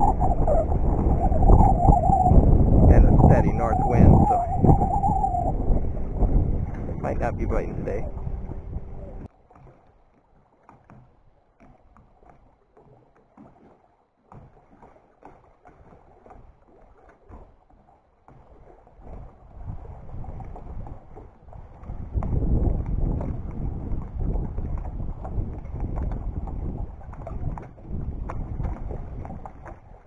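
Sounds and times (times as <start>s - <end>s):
water lapping against dock: 0.0s - 30.0s.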